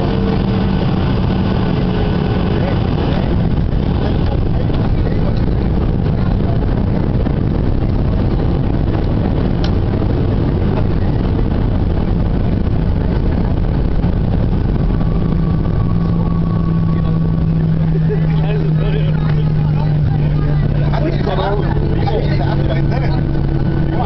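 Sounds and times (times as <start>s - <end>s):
jet engines and wheels rumbling: 0.0s - 24.0s
steady low hum: 0.0s - 24.0s.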